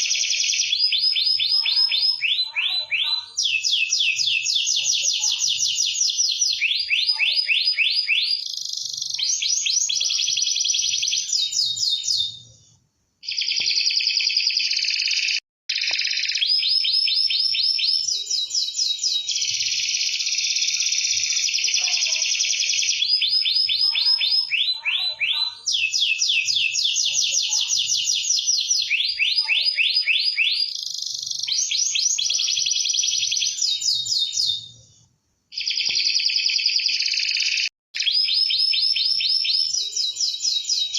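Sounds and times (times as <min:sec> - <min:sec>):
canary singing trills: 0:00.0 - 0:12.6, 0:13.2 - 0:34.8, 0:35.5 - 0:40.9.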